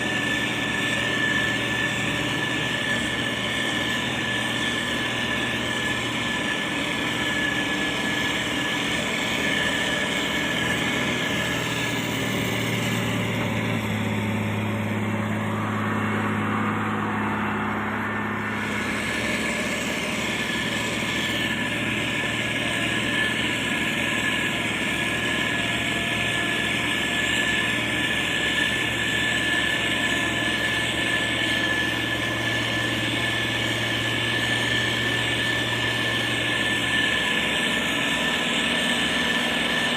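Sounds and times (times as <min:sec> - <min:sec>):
constant high whine: 0:00.0 - 0:39.9
grader diesel engine running: 0:00.0 - 0:39.9.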